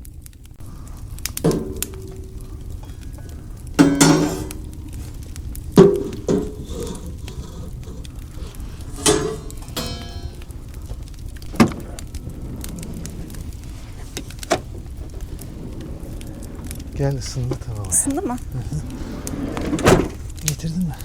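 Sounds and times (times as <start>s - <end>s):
metal cookware clanking: 0.6s - 20.5s.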